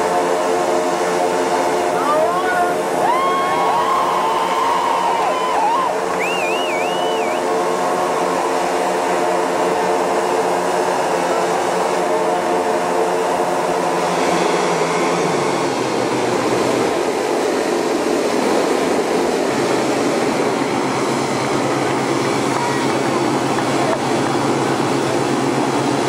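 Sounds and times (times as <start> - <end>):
model aircraft engines droning: 0.0 - 26.0.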